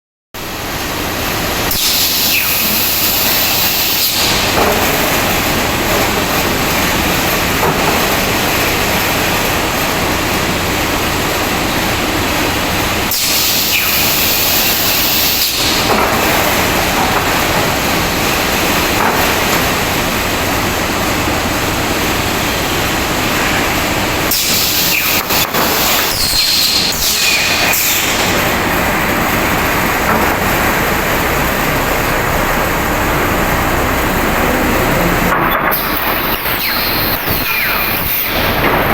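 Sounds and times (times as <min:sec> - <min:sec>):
sanding machine running: 0:00.4 - 0:38.9.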